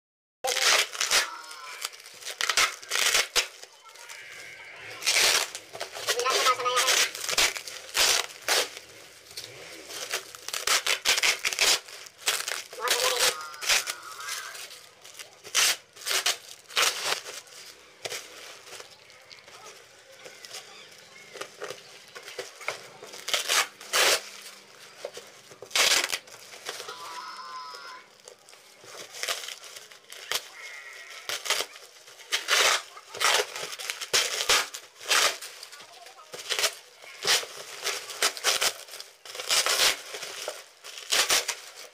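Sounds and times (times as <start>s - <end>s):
plastic packaging crinkling: 0.4s - 41.9s.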